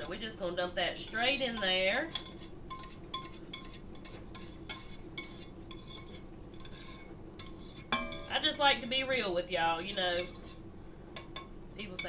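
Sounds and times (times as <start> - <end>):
whisk scraping metal bowl: 0.0 - 12.0.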